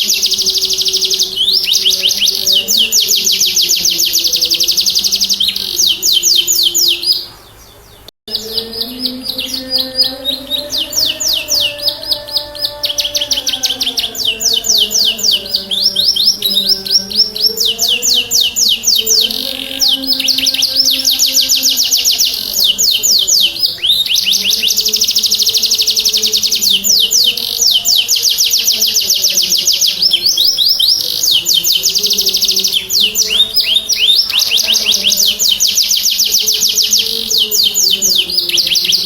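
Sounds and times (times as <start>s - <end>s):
canary singing trills: 0.0s - 39.0s.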